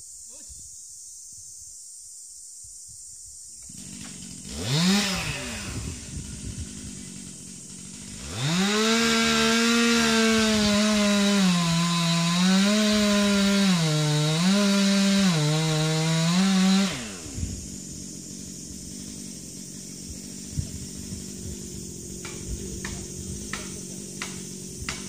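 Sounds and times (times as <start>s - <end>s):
chainsaw cutting wood: 3.6s - 25.0s
chainsaw idling: 3.6s - 25.0s.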